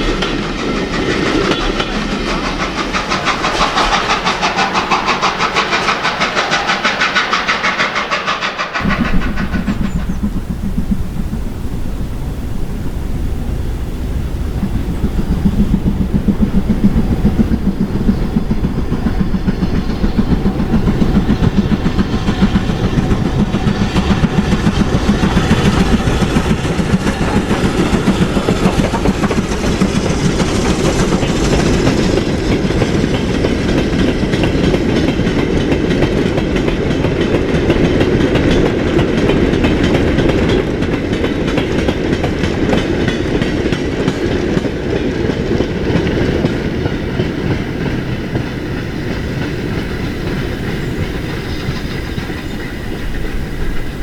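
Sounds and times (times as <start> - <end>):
steam train wheels clattering: 0.0 - 54.0.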